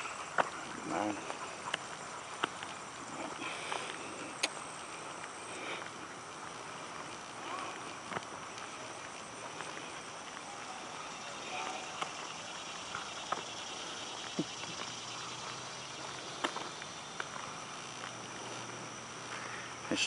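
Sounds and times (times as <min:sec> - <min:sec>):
footsteps on asphalt: 0:00.0 - 0:20.0
high insect trill: 0:00.0 - 0:20.0.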